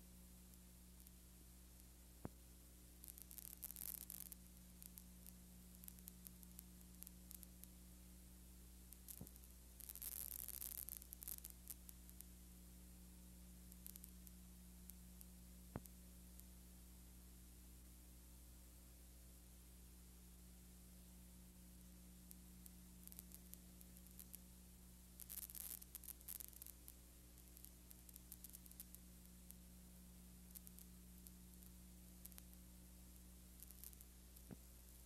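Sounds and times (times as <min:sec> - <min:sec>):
crackling static: 0:00.0 - 0:35.0
low mains hum and hiss: 0:00.0 - 0:35.0.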